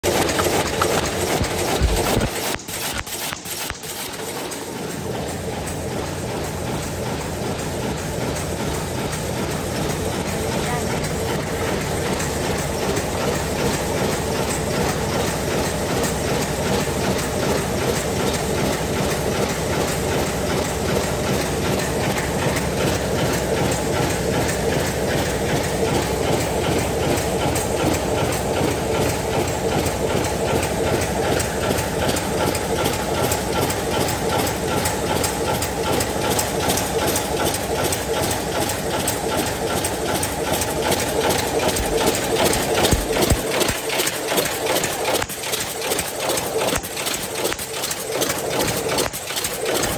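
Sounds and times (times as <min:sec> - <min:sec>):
paper cup machine clattering: 0:00.0 - 0:05.8, 0:08.3 - 0:49.9.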